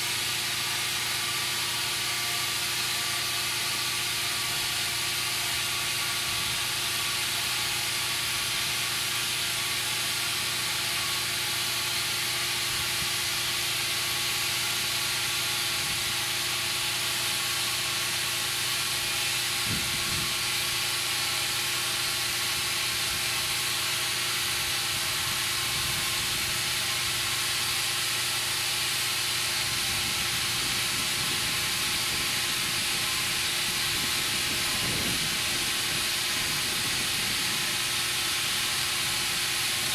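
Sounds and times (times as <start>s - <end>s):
compressed air hissing into tire: 6.2s - 39.9s.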